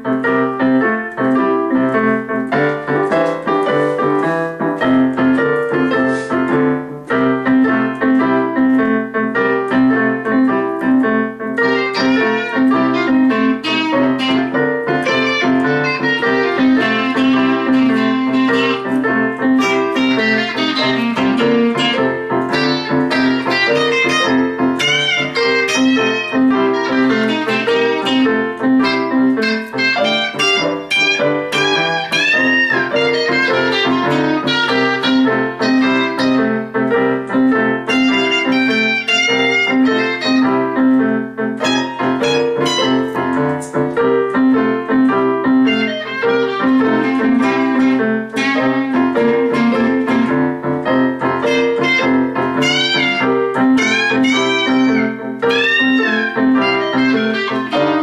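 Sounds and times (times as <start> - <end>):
electric guitar playing blues: 0.0 - 58.0.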